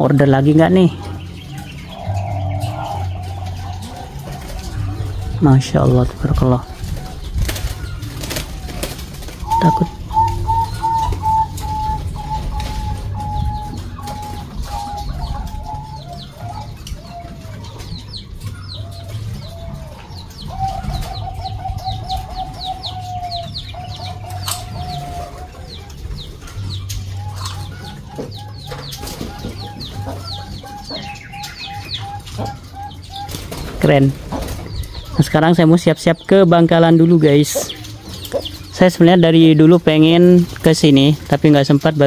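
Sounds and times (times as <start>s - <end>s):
doves cooing: 0.0s - 42.0s
small birds chirping: 0.0s - 42.0s.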